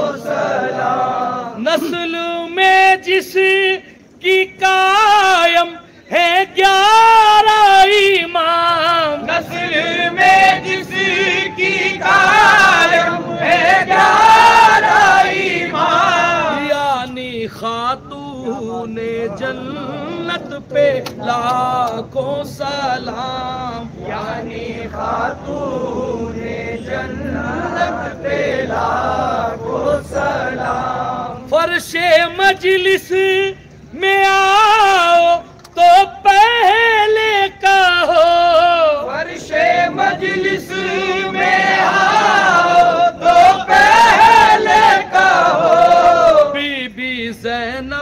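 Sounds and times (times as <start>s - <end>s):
man singing devotional chant: 0.0s - 48.0s
men singing in chorus: 0.0s - 48.0s.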